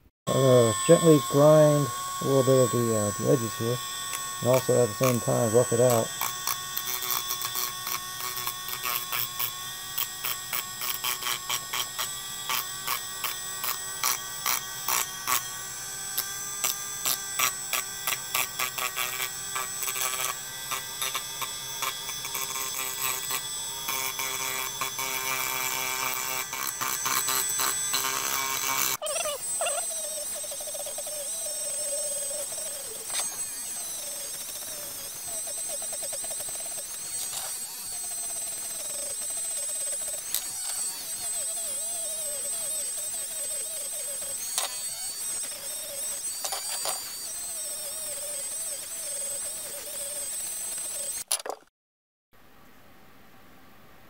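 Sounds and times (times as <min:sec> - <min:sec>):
rotary tool grinding plastic: 0:00.3 - 0:51.6.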